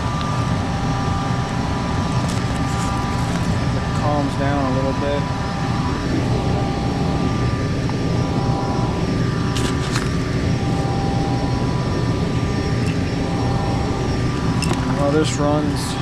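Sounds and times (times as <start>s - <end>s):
gas furnace running: 0.0s - 16.0s.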